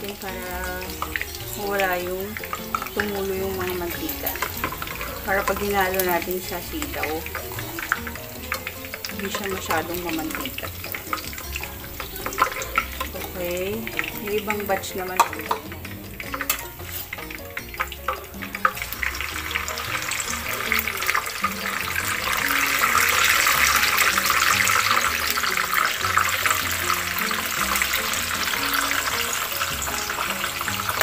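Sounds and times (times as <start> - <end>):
tofu sizzling in hot oil: 0.0 - 31.0.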